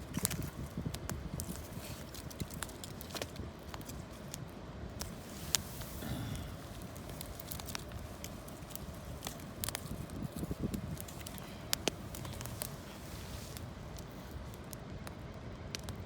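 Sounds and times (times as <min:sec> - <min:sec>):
campfire crackling and popping: 0:00.0 - 0:16.0
rustle of leaves: 0:00.0 - 0:16.0.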